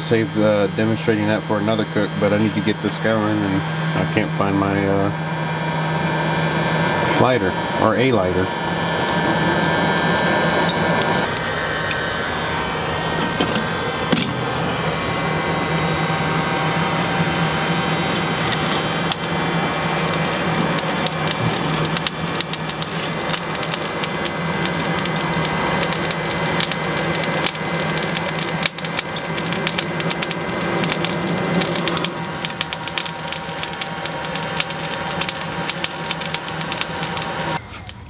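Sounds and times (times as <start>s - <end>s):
hot-air blower hissing: 0.0s - 38.0s
charcoal crackling and popping: 0.1s - 38.0s.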